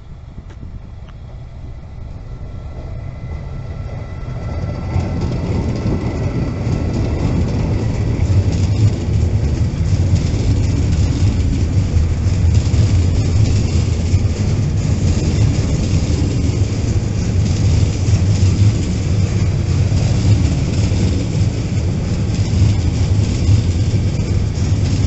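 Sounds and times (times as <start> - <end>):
electric locomotive whine: 0.0 - 25.0
freight wagons rumbling past: 0.0 - 25.0.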